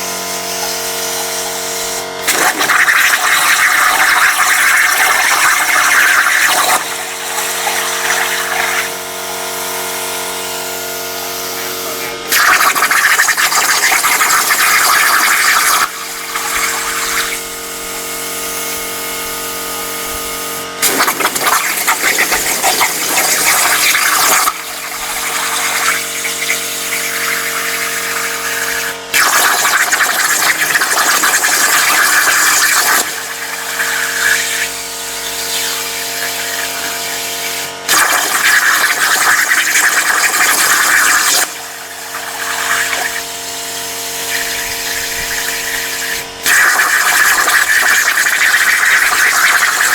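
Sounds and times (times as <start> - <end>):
steady machine hum: 0.0 - 47.6
plasma cutter hissing: 0.1 - 20.2, 20.8 - 43.6, 44.2 - 49.9.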